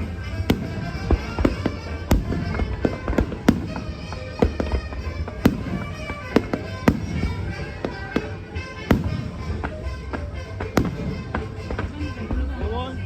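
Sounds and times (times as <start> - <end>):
fireworks pops: 0.0 - 12.7
fireworks bangs and cracks: 0.0 - 13.0.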